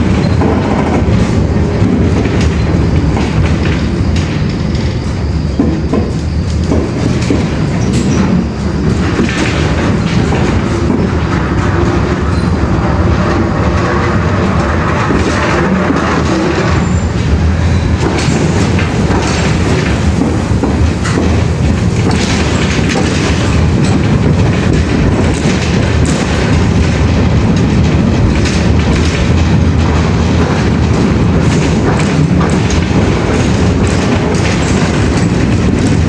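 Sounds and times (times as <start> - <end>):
loud steady rumbling: 0.0 - 36.0.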